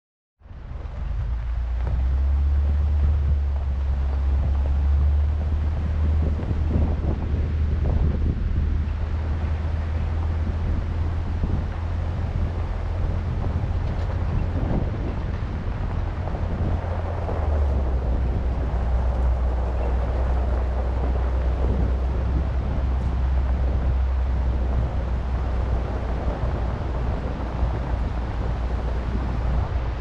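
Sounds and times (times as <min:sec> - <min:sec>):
wind on microphone: 0:00.4 - 0:30.0.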